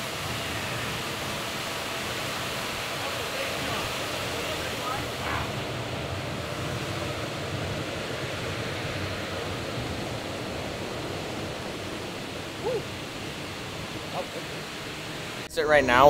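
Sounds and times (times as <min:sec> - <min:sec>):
cooling fans rushing air: 0:00.0 - 0:16.0.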